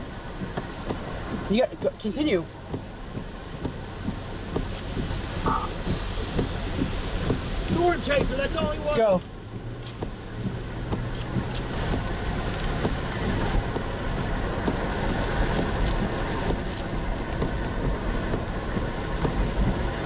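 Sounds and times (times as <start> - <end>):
low engine hum: 0.0 - 20.0
road and wind noise in car: 0.0 - 20.0.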